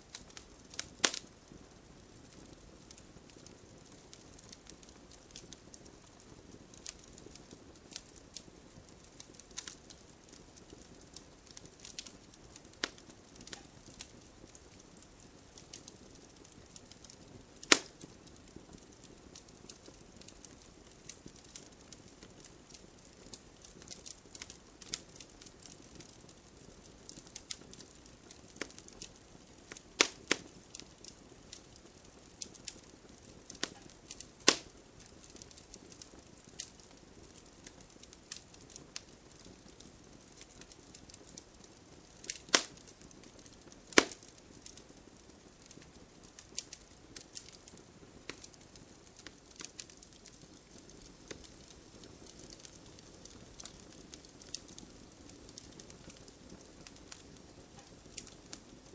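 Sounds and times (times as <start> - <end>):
wood bonfire crackling: 0.0 - 58.9.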